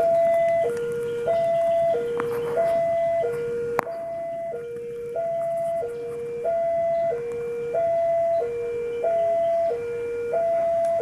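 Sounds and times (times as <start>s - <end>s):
two-tone level crossing alarm: 0.0s - 11.0s.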